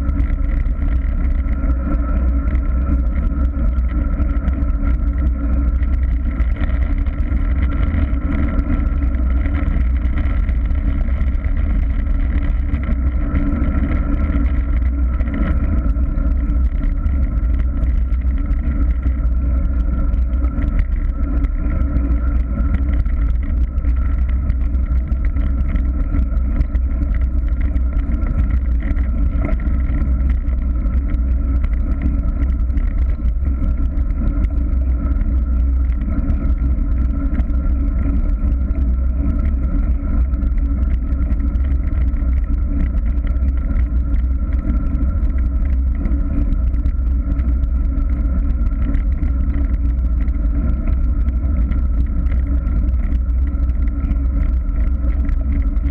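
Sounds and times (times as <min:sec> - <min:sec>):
bicycle tyres on rough asphalt: 0:00.0 - 0:55.9
wind on microphone: 0:00.0 - 0:55.9.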